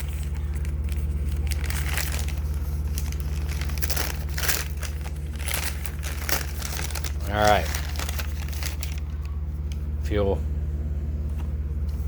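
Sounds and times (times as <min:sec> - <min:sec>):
bag crinkling and rustling: 0:00.0 - 0:09.8
steady low hum: 0:00.0 - 0:12.0.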